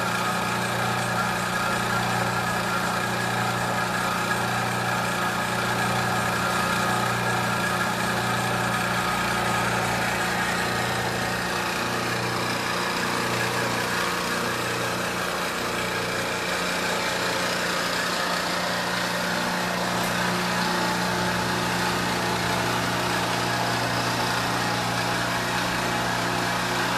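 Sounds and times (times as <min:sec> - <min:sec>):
cutter milling metal: 0:00.0 - 0:26.9
milling machine motor humming: 0:00.0 - 0:26.9.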